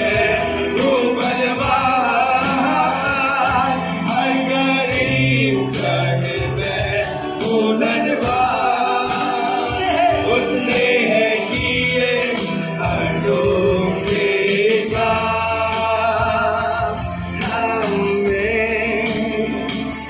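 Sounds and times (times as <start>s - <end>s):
keyboard: 0.0s - 20.0s
men singing together: 0.0s - 20.0s.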